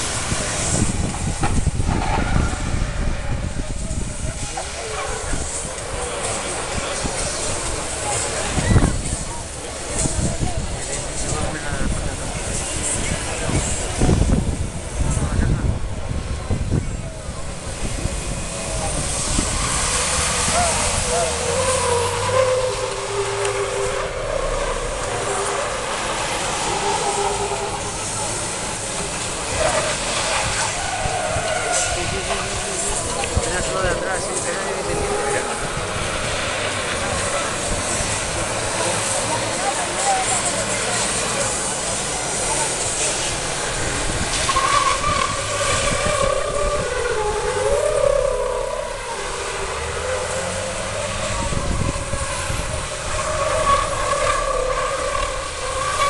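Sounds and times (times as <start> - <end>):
heavy truck engines rumbling: 0.0 - 56.0.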